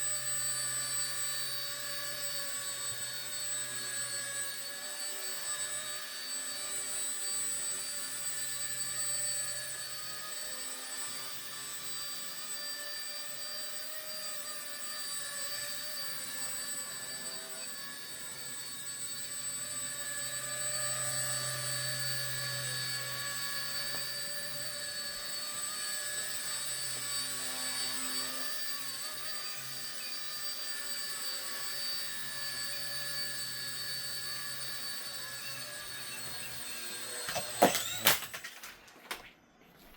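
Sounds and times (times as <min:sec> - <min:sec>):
high-pitched motor whine: 0:00.0 - 0:38.7.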